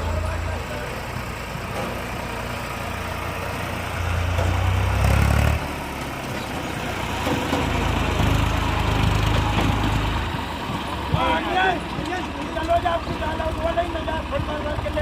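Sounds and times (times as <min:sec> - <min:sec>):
tractor diesel engine revving: 0:00.0 - 0:15.0.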